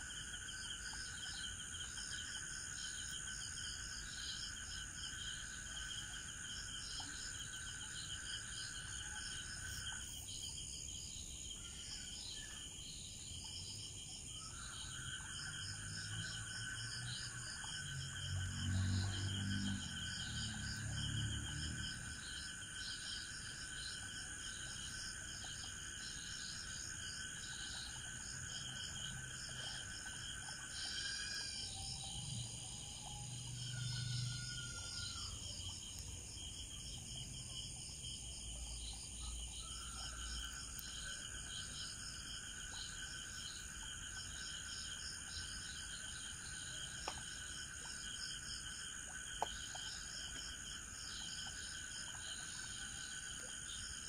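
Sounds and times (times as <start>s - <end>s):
crickets and insects trilling: 0.0s - 54.0s
lower insect trill: 0.0s - 54.0s.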